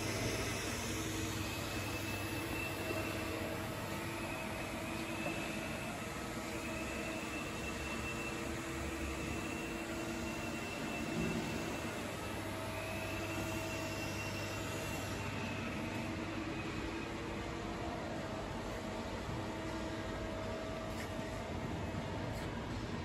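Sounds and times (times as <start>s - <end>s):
machinery humming: 0.0s - 23.0s.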